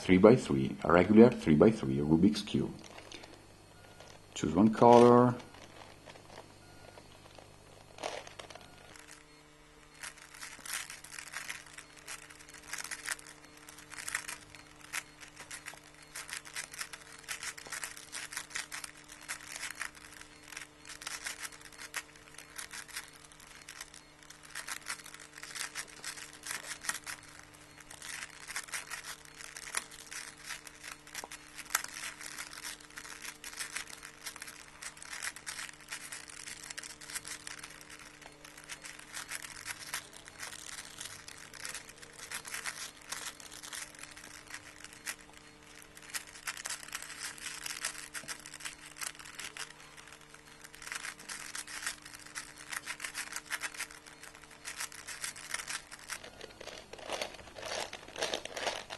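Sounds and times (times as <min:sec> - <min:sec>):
puzzle cube clicking: 0:09.9 - 0:58.9.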